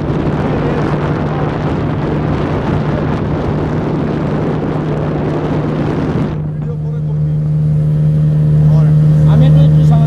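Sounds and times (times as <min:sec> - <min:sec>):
rush of wind and water: 0:00.0 - 0:10.0
speedboat motor humming: 0:00.0 - 0:10.0.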